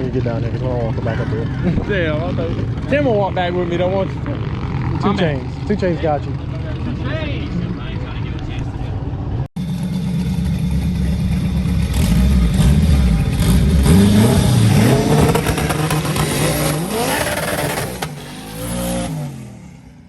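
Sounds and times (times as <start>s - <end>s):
drag car engine accelerating: 0.0s - 20.0s.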